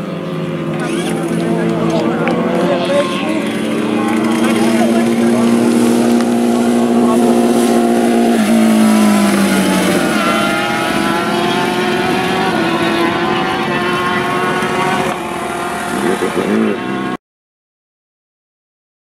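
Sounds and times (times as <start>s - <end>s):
motorcycle engine at low revs: 0.0s - 17.2s
motorcycle throttle blips: 0.6s - 17.1s.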